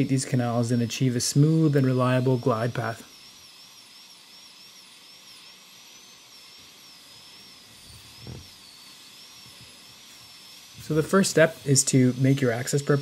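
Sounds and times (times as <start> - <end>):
dental drill whining: 0.0 - 13.0.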